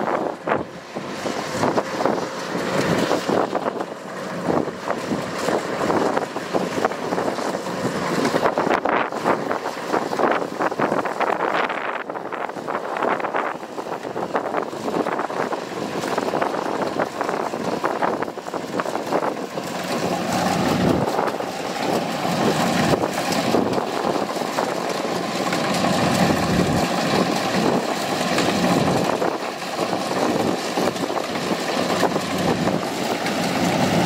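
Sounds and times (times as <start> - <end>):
combine harvester engine running: 0.0 - 34.0
steady machine whine: 0.0 - 34.0.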